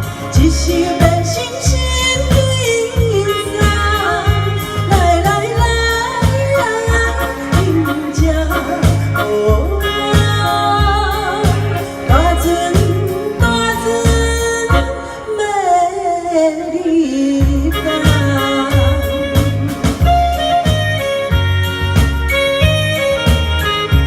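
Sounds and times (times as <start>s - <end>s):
steady bass beat: 0.0s - 15.0s, 17.4s - 24.0s
woman singing pop ballad: 0.0s - 20.7s.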